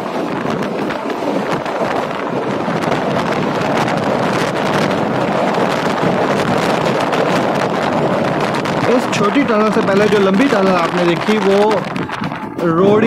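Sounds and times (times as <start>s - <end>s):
train coach rattling and rumbling: 0.0s - 13.0s
wind buffeting microphone: 0.0s - 13.0s.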